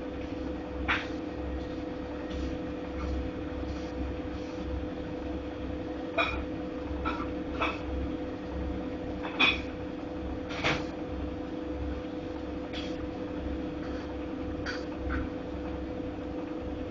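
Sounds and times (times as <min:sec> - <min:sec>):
washing machine motor hum: 0:00.0 - 0:16.9.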